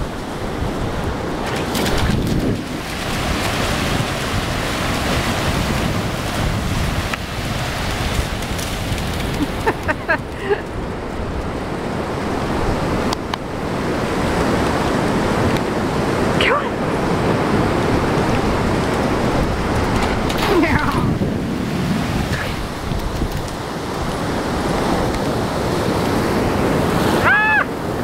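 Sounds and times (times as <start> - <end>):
ocean surf washing: 0.0 - 28.0
wind buffeting microphone: 0.0 - 28.0.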